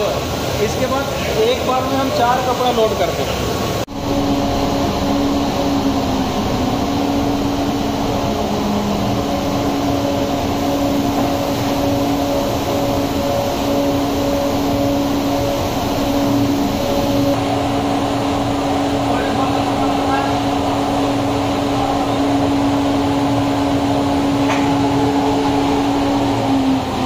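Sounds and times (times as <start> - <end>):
industrial blower running: 0.0 - 27.0.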